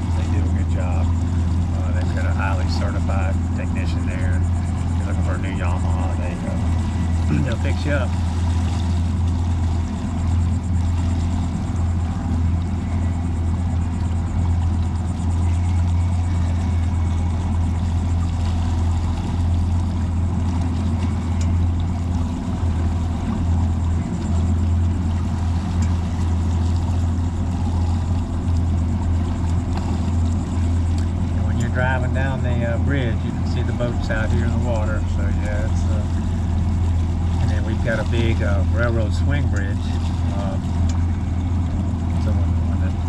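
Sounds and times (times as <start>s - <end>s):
outboard engine running: 0.0s - 43.0s
wind and water rushing: 0.0s - 43.0s.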